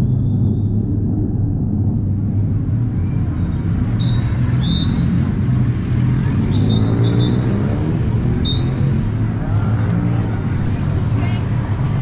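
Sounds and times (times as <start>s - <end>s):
motor vehicle engine rumbling: 0.0s - 12.0s.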